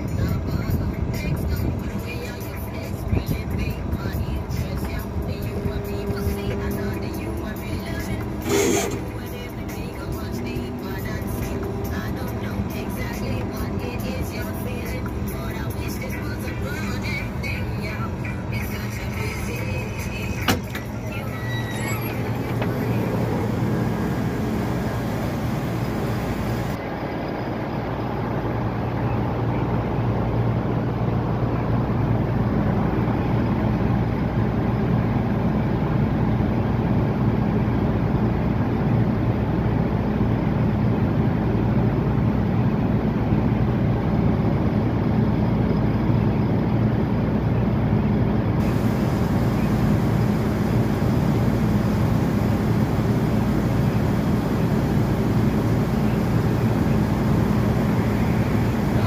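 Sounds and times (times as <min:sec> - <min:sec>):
cotton picker diesel engine droning: 0:00.0 - 0:59.0.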